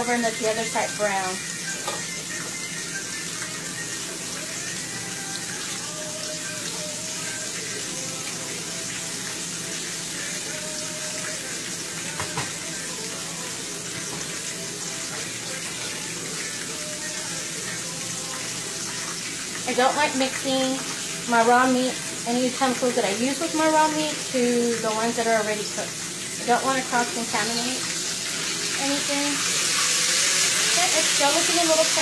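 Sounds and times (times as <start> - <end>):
patty sizzling in hot oil: 0.0 - 32.0.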